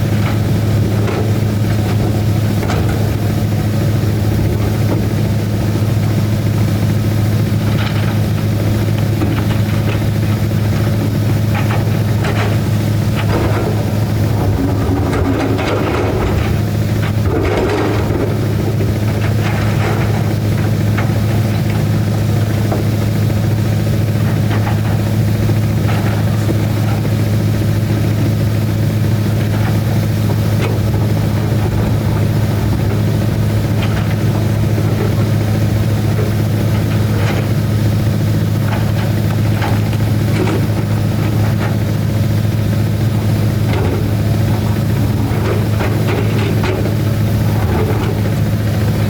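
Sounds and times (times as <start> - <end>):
diesel engine running steadily: 0.0 - 49.0.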